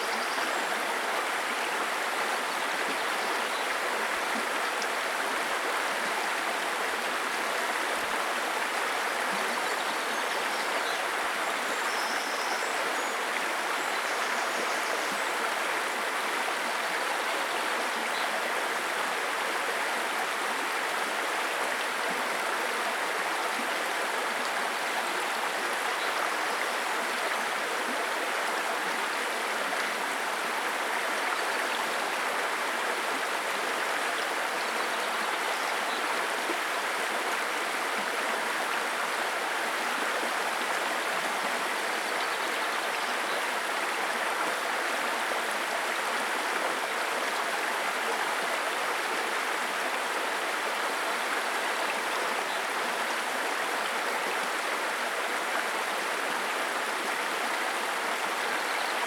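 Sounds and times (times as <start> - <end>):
brook water over stones: 0.0 - 59.0.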